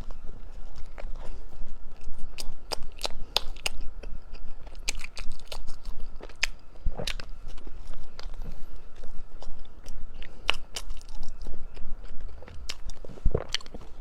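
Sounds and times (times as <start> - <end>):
person chewing crisp food: 0.0 - 14.0.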